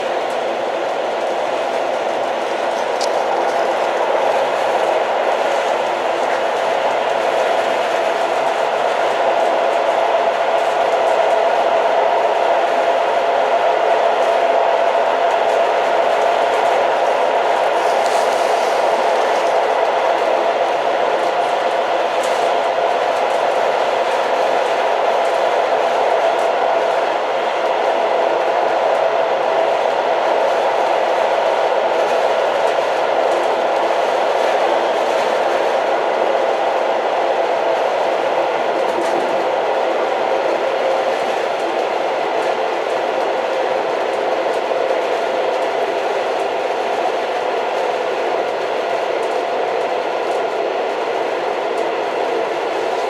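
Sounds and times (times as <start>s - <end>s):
train running: 0.0s - 53.0s.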